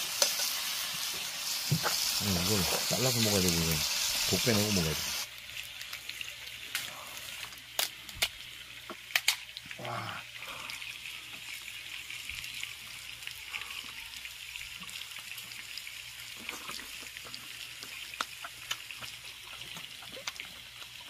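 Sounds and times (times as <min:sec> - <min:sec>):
food sizzling on a grill: 0:00.0 - 0:21.0.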